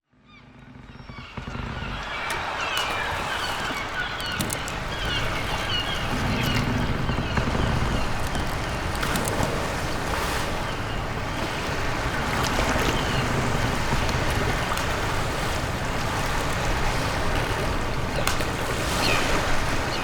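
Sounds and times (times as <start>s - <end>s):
wind blowing: 0.9s - 20.0s
sea waves washing: 1.1s - 20.0s.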